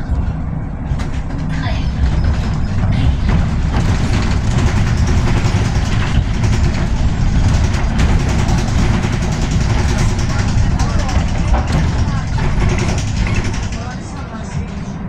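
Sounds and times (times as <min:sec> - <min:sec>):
bus road rumble: 0:00.0 - 0:15.0.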